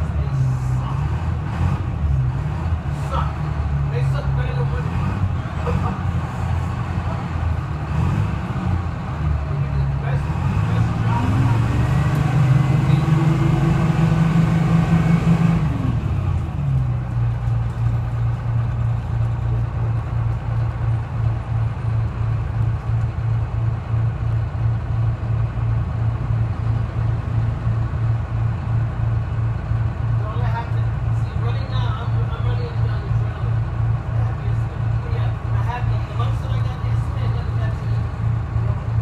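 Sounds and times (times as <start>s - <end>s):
bus diesel engine idling: 0.0s - 39.0s.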